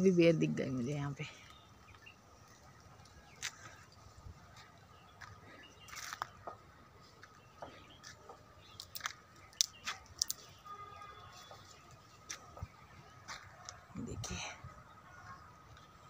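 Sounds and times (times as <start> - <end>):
dry grass and twigs crackling: 0.4 - 14.5.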